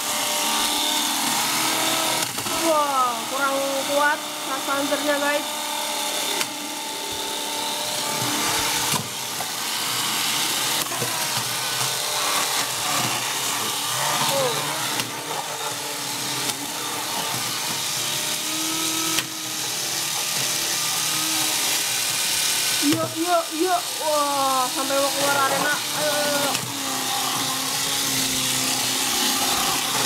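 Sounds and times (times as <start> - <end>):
toy robot motors whirring: 0.0 - 30.0.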